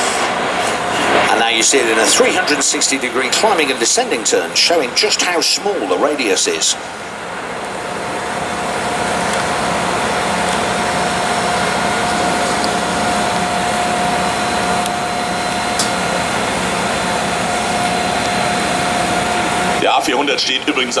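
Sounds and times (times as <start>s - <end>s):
turboprop engines droning: 0.0s - 21.0s.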